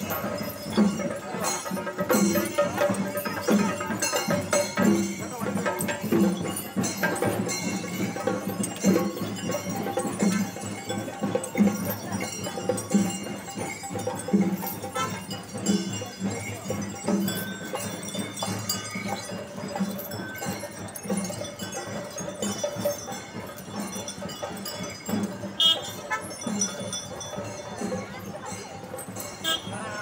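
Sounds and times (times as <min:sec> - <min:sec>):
bells and chains jingling: 0:00.0 - 0:30.0.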